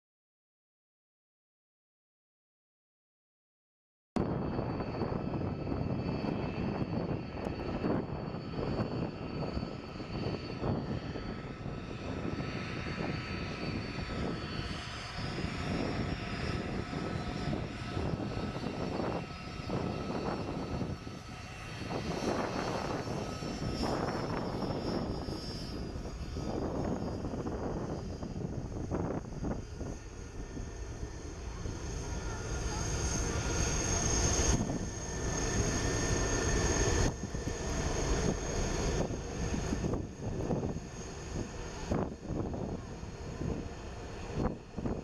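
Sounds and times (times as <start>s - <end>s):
jet engines roaring and whining: 4.2s - 45.0s.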